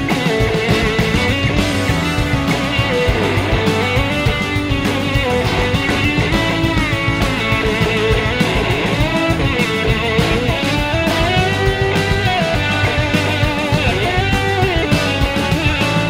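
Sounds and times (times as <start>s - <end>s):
electric slide guitar lead: 0.0s - 16.0s
rock band with drums: 0.0s - 16.0s.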